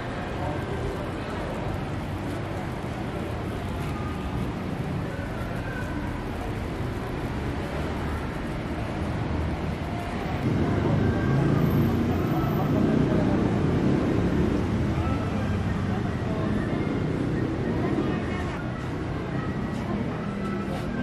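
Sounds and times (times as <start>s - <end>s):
background hubbub: 0.0s - 21.0s
faint distant voices: 0.0s - 21.0s.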